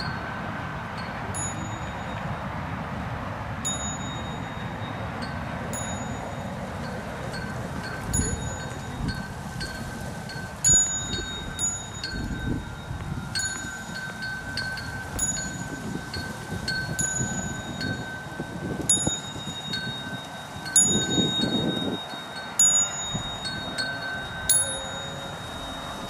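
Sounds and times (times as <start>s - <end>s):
small metal bells ringing: 0.0s - 2.5s, 3.6s - 26.0s
wind rumbling on microphone: 0.0s - 26.0s.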